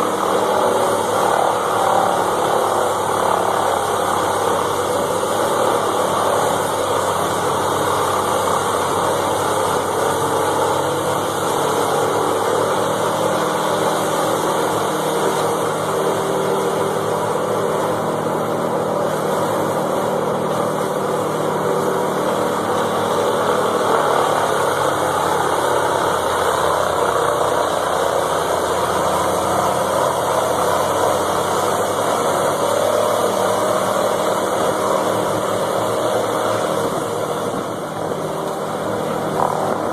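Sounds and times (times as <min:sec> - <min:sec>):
machine engine running: 0:00.0 - 0:39.9.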